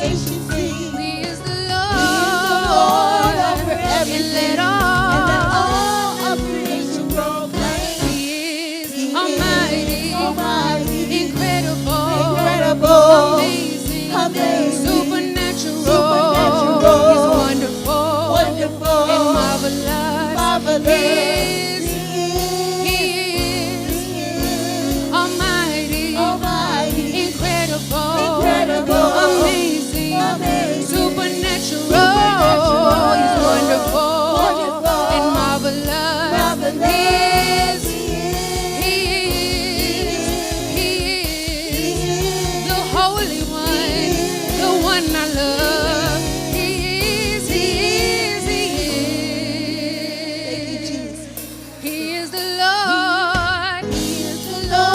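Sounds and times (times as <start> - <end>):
gospel singers with band: 0.0 - 54.9.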